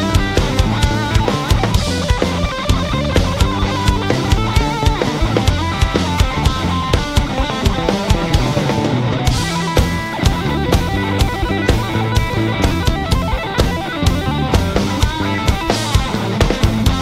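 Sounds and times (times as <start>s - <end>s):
drum kit with cymbals: 0.0s - 17.0s
electric guitar: 0.0s - 17.0s.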